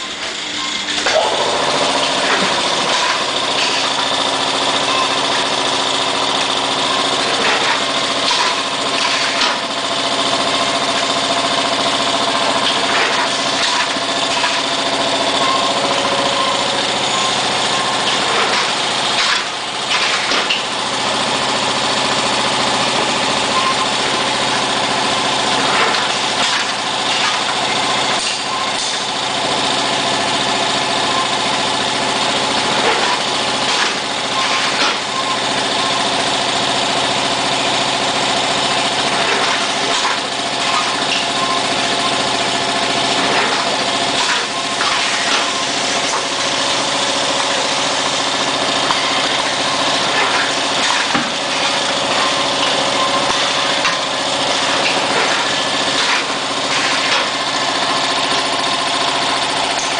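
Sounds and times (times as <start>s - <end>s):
packing machine humming: 0.0s - 59.9s.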